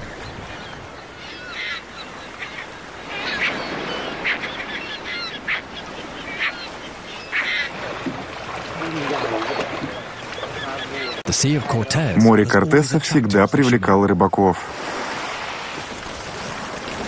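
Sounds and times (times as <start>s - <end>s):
gulls calling: 0.0s - 17.0s
sea wash: 0.0s - 17.0s.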